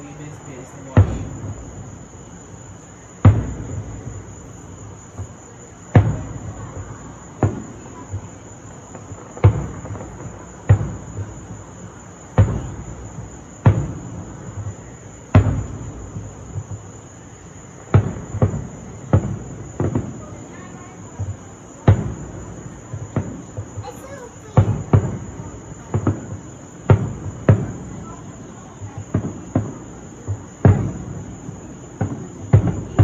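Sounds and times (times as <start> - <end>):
crickets chirring: 0.0 - 33.0
fireworks booming: 0.0 - 33.0.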